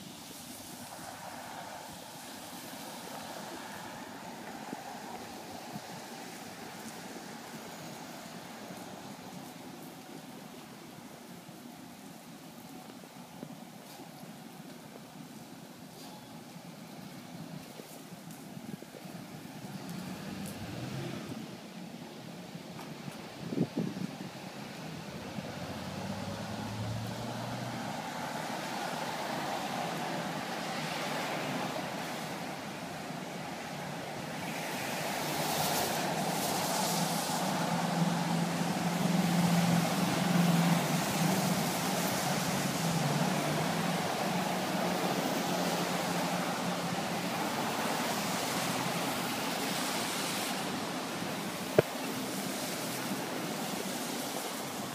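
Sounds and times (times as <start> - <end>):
rain hissing on wet street: 0.0 - 54.9.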